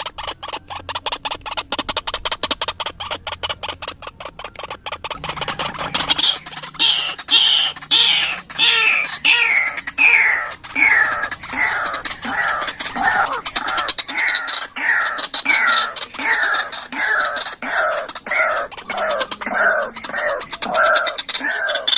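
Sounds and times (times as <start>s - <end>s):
bird repeated call: 0.0s - 21.9s.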